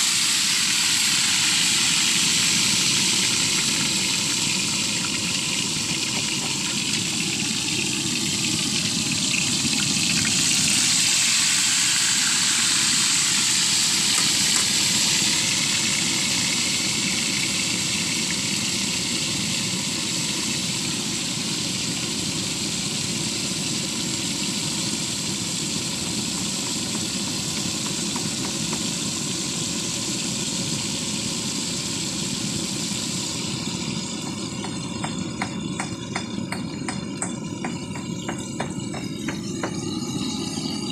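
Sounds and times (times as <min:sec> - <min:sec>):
gas burner roaring: 0:00.0 - 0:40.9
oil sizzling in a wok: 0:00.0 - 0:40.9.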